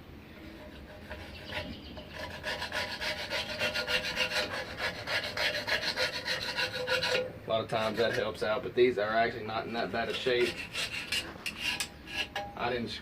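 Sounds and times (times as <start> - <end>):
hand scraper scraping steel blade: 0.6 - 8.4, 9.6 - 12.7.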